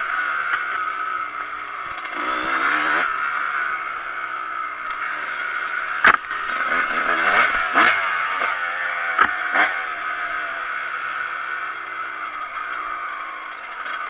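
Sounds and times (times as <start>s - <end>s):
dirt bike engine: 0.0s - 14.0s.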